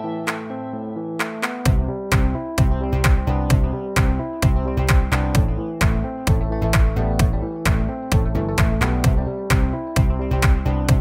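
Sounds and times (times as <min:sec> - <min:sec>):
electronic music with kick drum: 0:01.2 - 0:11.0.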